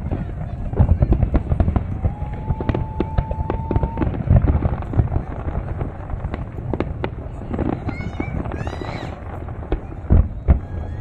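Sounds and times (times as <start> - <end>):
fireworks bangs and crackles: 0.0 - 11.0
low rumbling: 0.0 - 11.0.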